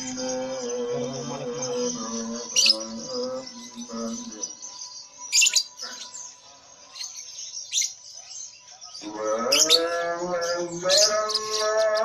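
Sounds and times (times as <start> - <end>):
background music with singing: 0.0 - 12.0
lovebirds chirping: 0.0 - 12.0.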